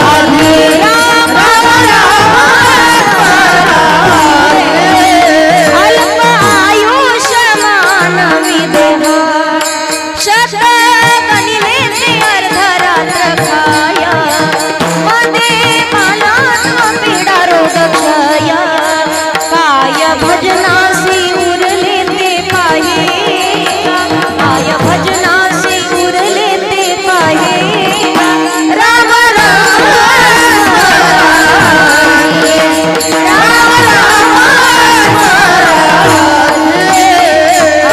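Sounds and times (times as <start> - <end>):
rhythmic percussion: 0.0 - 37.9
woman singing devotional song: 0.0 - 37.9.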